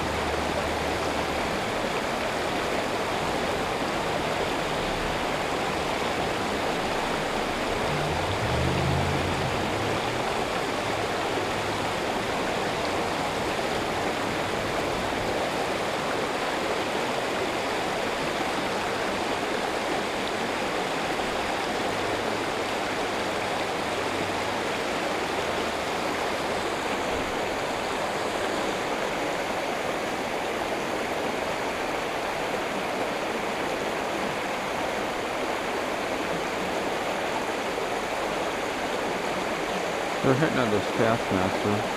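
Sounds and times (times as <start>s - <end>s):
creek rushing over rocks: 0.0s - 41.9s.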